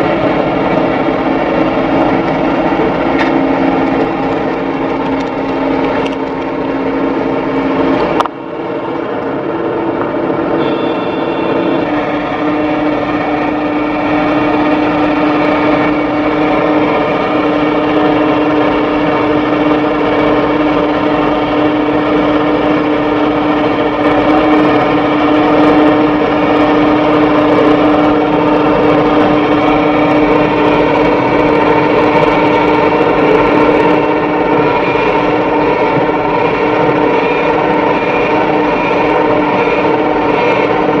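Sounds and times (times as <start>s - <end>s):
heavy diesel engine running hard: 0.0s - 41.0s.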